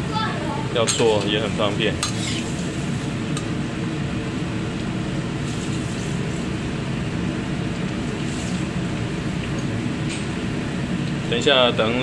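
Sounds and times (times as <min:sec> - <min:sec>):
stove rushing noise: 0:00.0 - 0:12.0.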